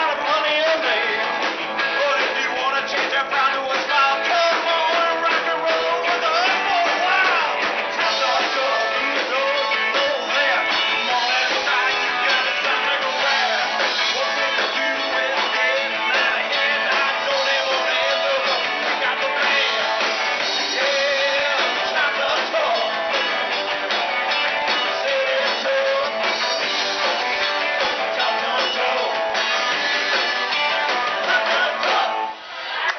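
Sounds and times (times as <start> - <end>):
person singing: 0.0 - 23.1, 24.8 - 26.4, 27.1 - 29.4, 31.1 - 32.4
live rock band playing: 0.0 - 32.9.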